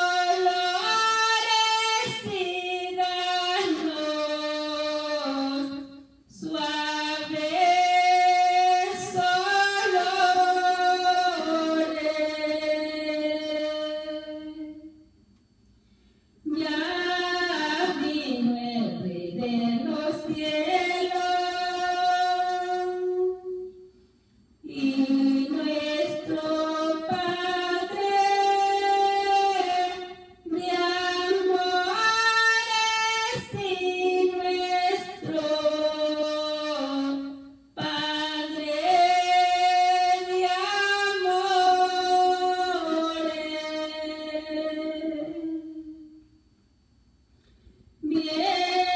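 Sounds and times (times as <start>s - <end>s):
woman singing a hymn: 0.0s - 15.0s, 16.4s - 23.7s, 24.6s - 46.4s, 48.0s - 48.9s.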